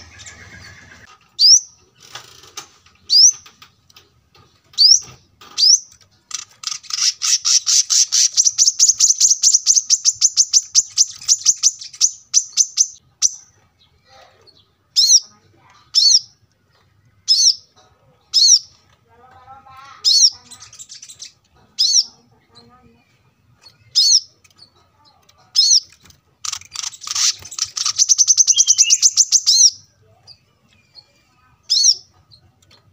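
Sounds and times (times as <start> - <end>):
bird trilling and chirping: 0.0 - 32.9.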